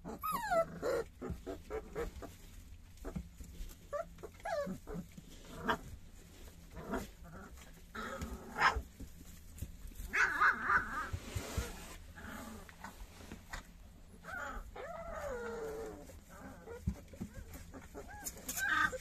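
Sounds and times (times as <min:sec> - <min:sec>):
puppies whimpering and yelping: 0:00.0 - 0:19.0
small paws scuffling on wooden boards: 0:01.0 - 0:19.0.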